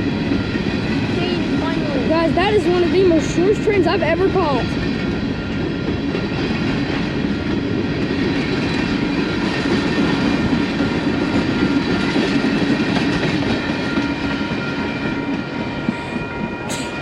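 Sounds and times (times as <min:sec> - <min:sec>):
train wheels clattering on track: 0:00.0 - 0:17.0.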